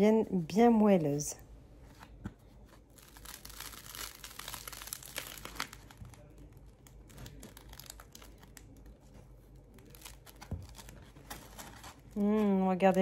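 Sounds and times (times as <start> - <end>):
bread crust crackling: 2.1 - 13.0.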